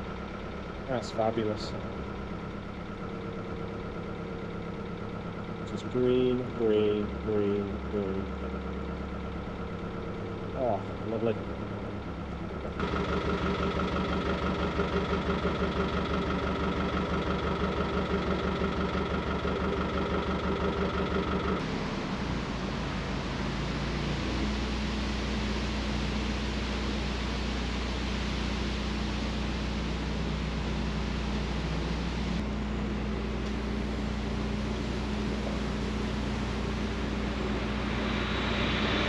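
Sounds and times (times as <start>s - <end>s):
boat diesel engine running: 0.0s - 39.0s.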